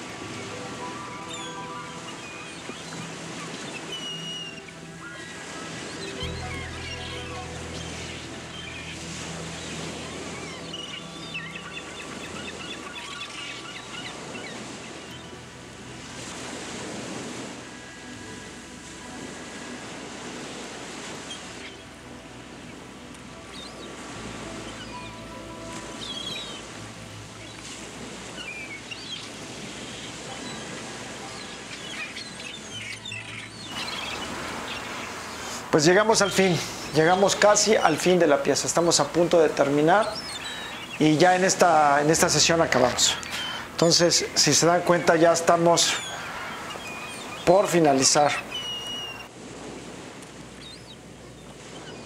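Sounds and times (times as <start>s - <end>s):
low sustained music notes: 0.0s - 52.0s
surf-like wash of noise: 0.0s - 52.0s
small birds chirping: 0.4s - 15.4s, 23.4s - 49.3s, 50.6s - 52.0s.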